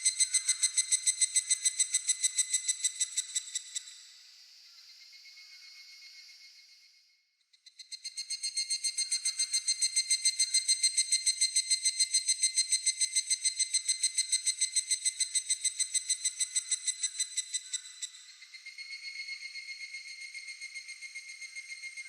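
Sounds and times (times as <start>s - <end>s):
cicada ringing pulses: 0.0s - 3.9s, 7.8s - 22.0s.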